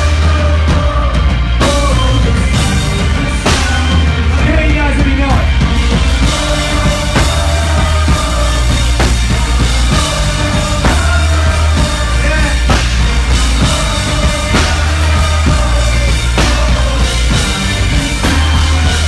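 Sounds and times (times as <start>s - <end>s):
drum kit kick and snare hits: 0.0s - 19.0s
heavy bass line: 0.0s - 19.0s
live band music: 0.0s - 19.0s.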